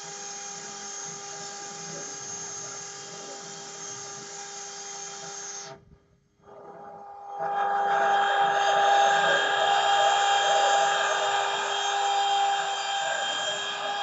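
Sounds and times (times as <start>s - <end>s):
router spindle whining: 0.0s - 5.8s, 6.4s - 14.0s.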